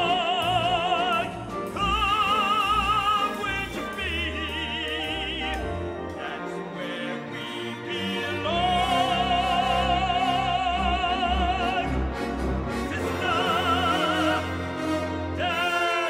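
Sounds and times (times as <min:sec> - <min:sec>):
man singing operatically: 0:00.0 - 0:16.0
orchestra: 0:00.0 - 0:16.0.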